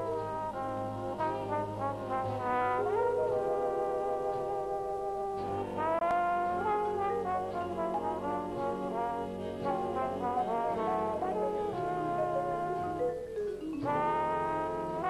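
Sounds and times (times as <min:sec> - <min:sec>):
big band jazz: 0:00.0 - 0:15.0
trombone solo: 0:00.0 - 0:15.0.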